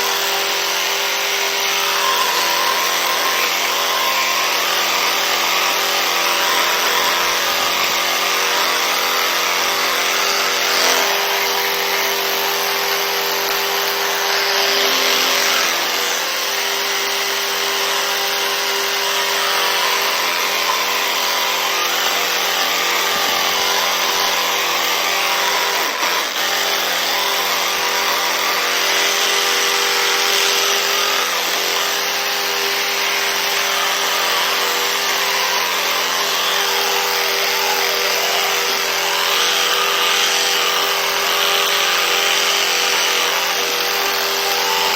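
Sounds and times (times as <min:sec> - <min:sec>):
small electric motor humming: 0:00.0 - 0:44.9.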